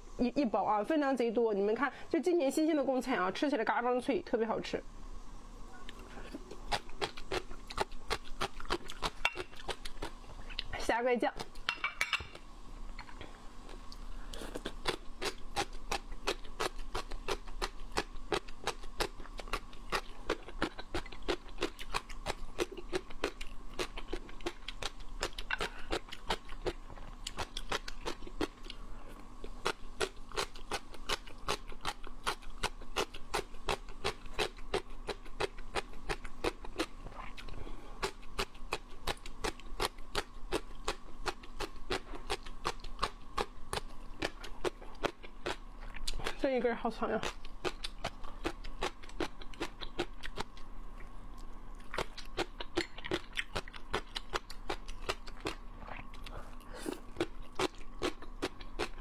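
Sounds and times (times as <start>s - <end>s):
crunchy vegetable chewing: 5.8s - 11.7s, 12.9s - 59.0s.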